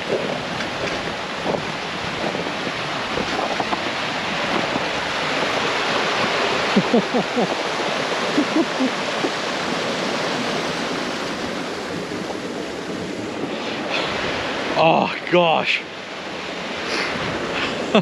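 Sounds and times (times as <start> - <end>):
river water rushing: 0.0 - 18.0
water gurgles: 0.0 - 18.0.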